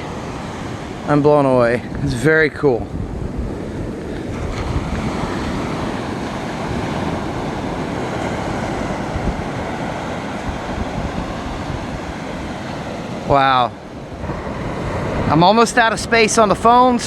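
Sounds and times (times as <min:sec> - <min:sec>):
ocean surf washing on sand: 0:00.0 - 0:17.0.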